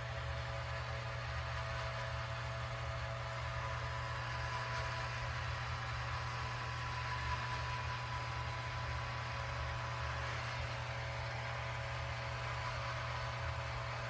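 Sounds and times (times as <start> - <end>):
robot vacuum motor hum: 0.0 - 14.0.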